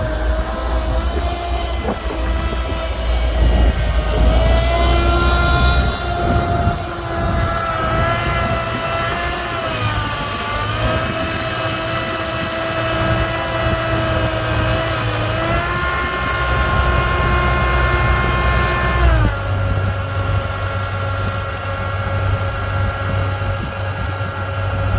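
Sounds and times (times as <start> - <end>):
excavator engine rumble: 0.0 - 24.9
excavator whine: 0.0 - 24.9.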